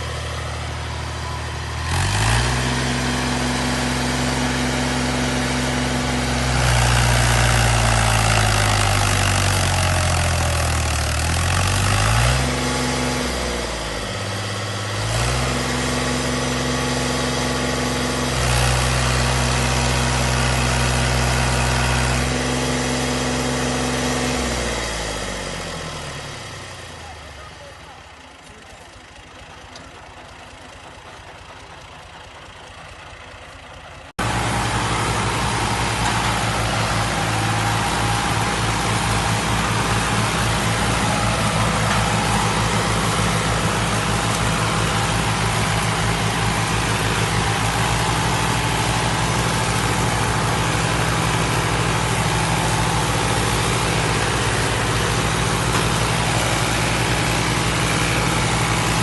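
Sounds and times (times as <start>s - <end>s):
heavy farm machinery engine running: 0.0s - 59.0s.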